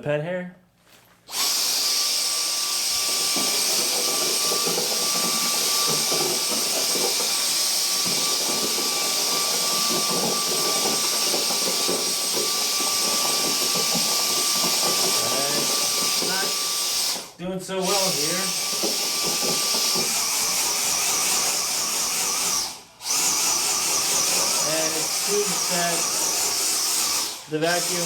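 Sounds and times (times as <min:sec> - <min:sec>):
vacuum cleaner whining: 0:01.3 - 0:28.0.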